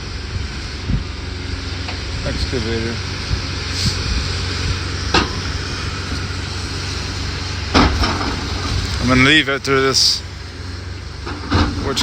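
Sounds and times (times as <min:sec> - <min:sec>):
excavator engine rumble: 0:00.0 - 0:12.0.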